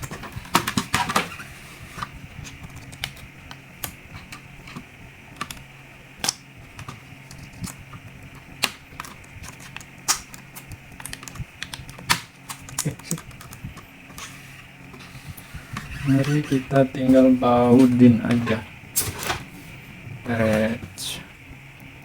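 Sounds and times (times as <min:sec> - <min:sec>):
fan humming: 0:00.0 - 0:22.0.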